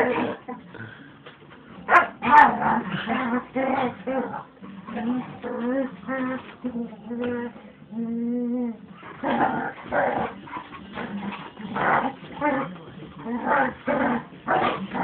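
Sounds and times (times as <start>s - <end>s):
dog whine-growling: 2.2s - 15.0s.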